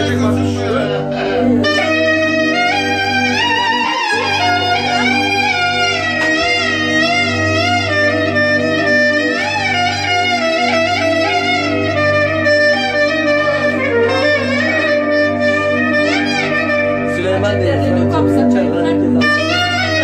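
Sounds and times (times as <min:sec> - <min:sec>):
clarinet improvisation: 0:00.0 - 0:20.0.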